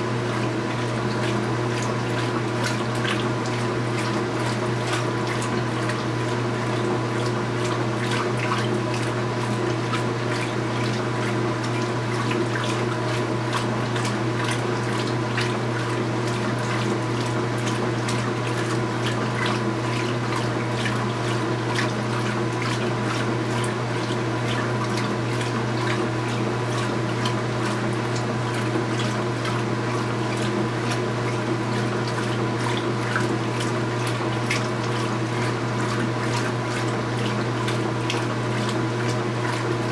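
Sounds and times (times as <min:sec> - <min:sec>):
washing machine hum: 0:00.0 - 0:39.9
water running in washing machine: 0:00.0 - 0:39.9.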